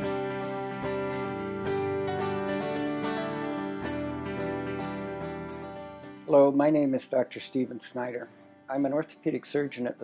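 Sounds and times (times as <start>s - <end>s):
instrumental music: 0.0s - 9.0s.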